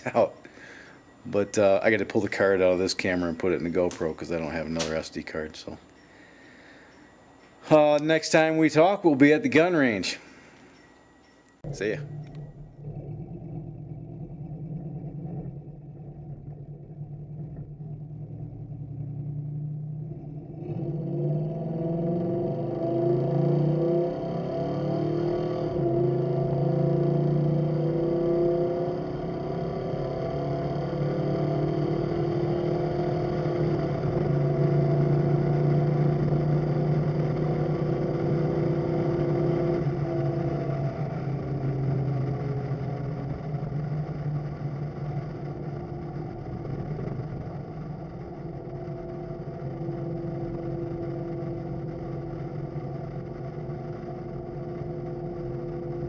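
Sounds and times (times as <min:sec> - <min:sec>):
car engine running: 0:00.0 - 0:05.8, 0:11.6 - 0:56.0.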